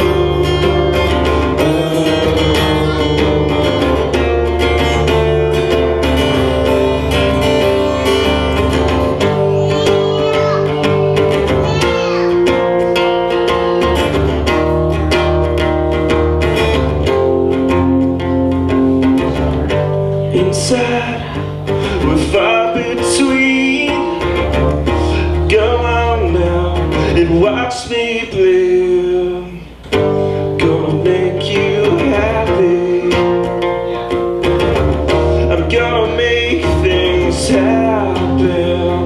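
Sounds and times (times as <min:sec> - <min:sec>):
man singing: 0:00.0 - 0:14.6, 0:19.1 - 0:39.0
acoustic guitar strumming: 0:00.0 - 0:39.0.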